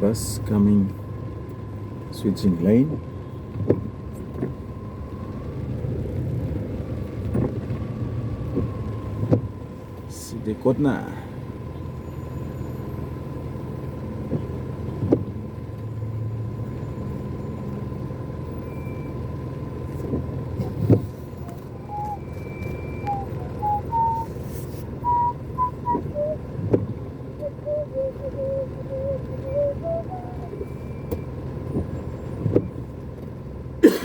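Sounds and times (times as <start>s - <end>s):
car engine and road rumble: 0.0s - 34.0s.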